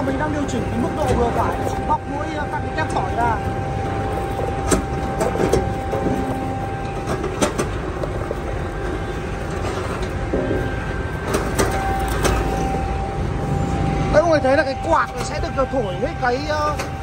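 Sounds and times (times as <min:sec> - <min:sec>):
machine motor and fan noise: 0:00.0 - 0:17.0.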